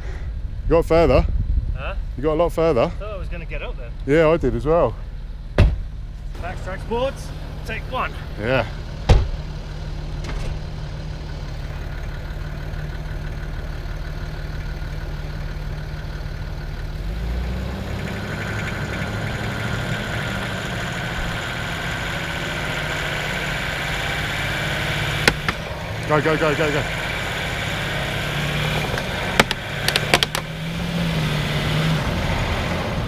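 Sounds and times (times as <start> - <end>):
engine idling and revving: 0.0 - 33.0.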